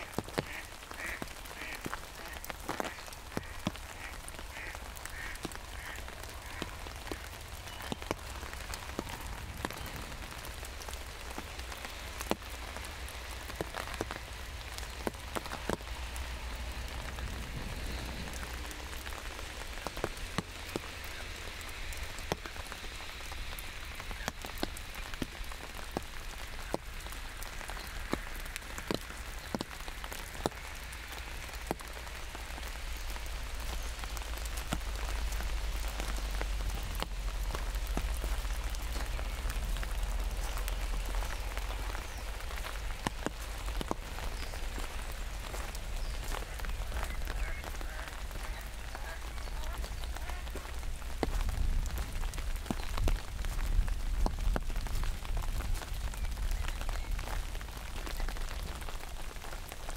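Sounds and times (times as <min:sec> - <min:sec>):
rain tapping on an umbrella: 0:00.0 - 0:59.9.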